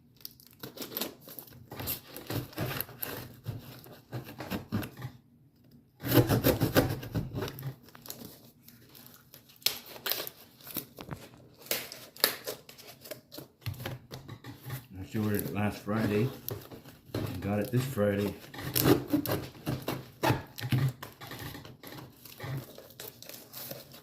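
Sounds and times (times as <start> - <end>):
packaging tearing and crinkling: 0.0 - 5.0, 6.0 - 14.2, 14.8 - 24.0.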